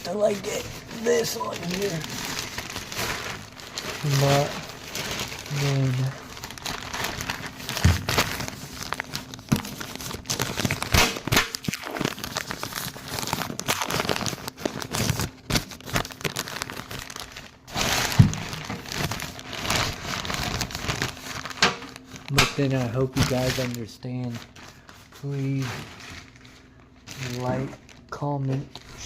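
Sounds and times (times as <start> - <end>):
crinkling and rustling: 0.0 - 29.0.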